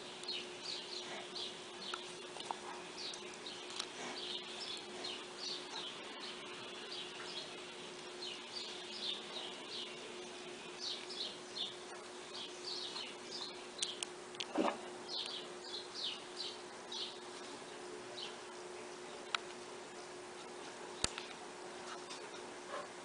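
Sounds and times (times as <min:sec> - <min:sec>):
small birds chirping: 0:00.0 - 0:22.6
faint steady hum: 0:00.0 - 0:23.0.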